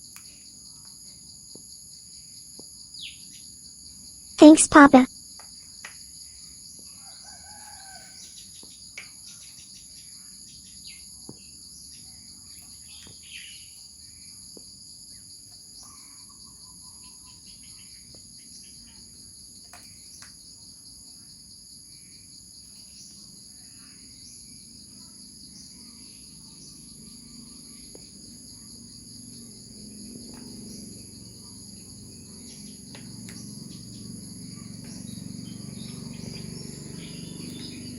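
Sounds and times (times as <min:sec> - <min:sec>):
insect chorus: 0:00.0 - 0:04.4, 0:05.1 - 0:37.9.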